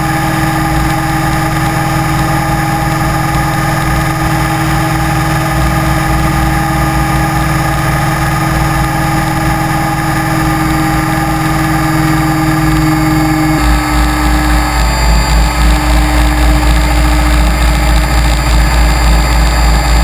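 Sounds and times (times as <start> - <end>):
model aircraft propeller drone: 0.0 - 20.0
rushing noise: 0.0 - 20.0.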